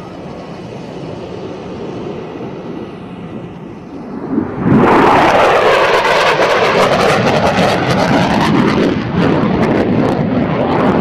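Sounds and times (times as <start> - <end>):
fighter jet roar with crackling: 0.0 - 11.0.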